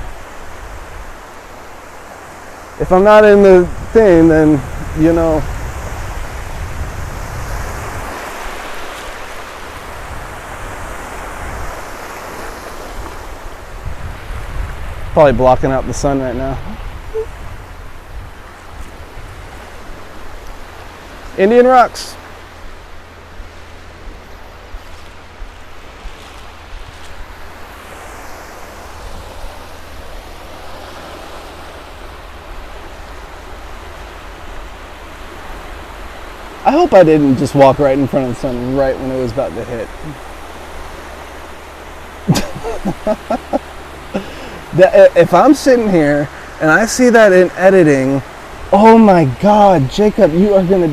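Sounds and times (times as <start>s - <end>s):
surf washing onto beach: 0.0s - 50.9s
wind rumbling on microphone: 0.0s - 50.9s.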